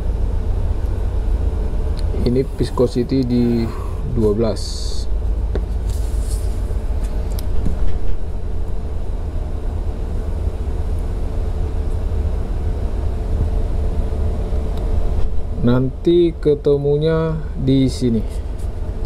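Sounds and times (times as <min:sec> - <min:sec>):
machinery rumble and hum: 0:00.0 - 0:19.0.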